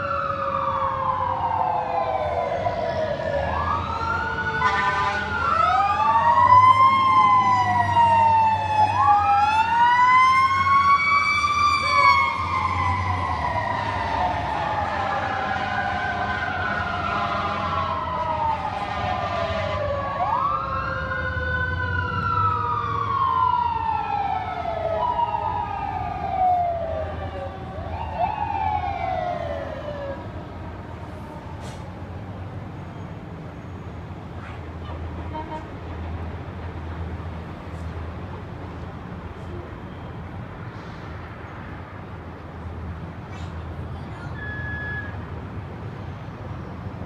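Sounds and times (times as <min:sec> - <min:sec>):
fire engine sirens wailing: 0:00.0 - 0:47.0
low rumble of engines and traffic: 0:00.0 - 0:47.0.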